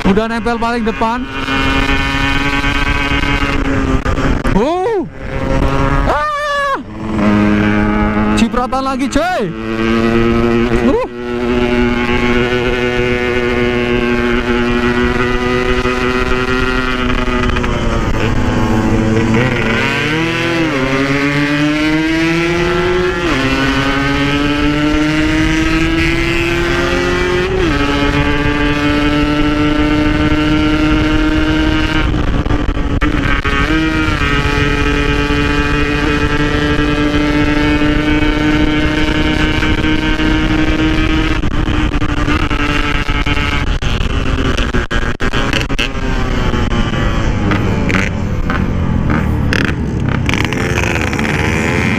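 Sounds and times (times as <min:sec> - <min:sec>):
two-stroke motorcycle engine: 0:00.0 - 0:51.9.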